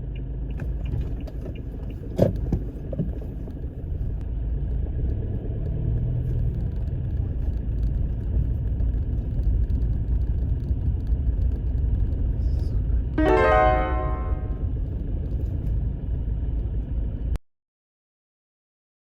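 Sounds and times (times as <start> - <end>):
truck engine and road rumble: 0.0 - 17.4.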